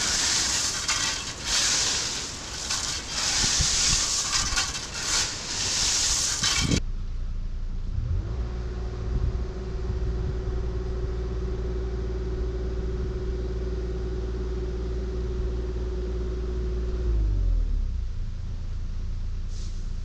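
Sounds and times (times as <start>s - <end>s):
diesel engine rumbling under load: 0.0s - 17.2s.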